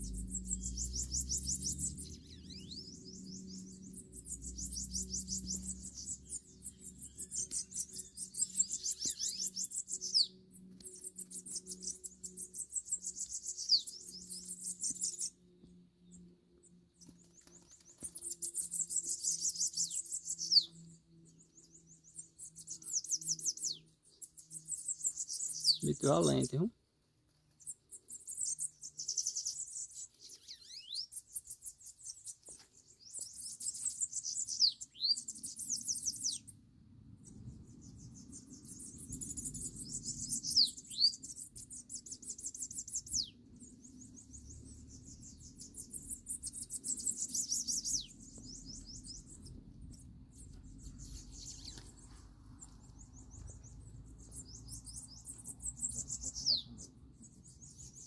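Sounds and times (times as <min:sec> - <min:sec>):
songbird singing trilled phrases: 0:00.0 - 0:26.8, 0:27.6 - 0:36.5, 0:37.2 - 0:58.0.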